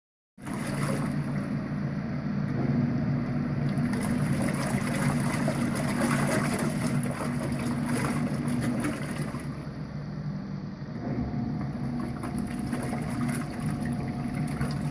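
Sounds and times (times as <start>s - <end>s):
water churning and sloshing: 0.4s - 1.8s, 2.5s - 10.3s, 11.0s - 14.9s
washing machine motor hum: 0.4s - 14.9s.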